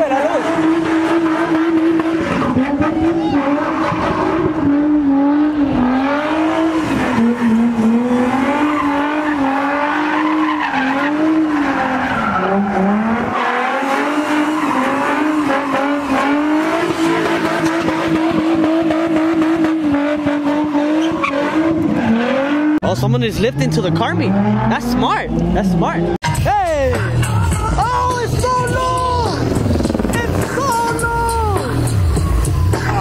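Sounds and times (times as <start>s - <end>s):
tyres squealing and skidding: 0.0s - 26.1s, 27.0s - 33.0s
car engine at high revs: 0.0s - 26.2s, 29.3s - 30.9s.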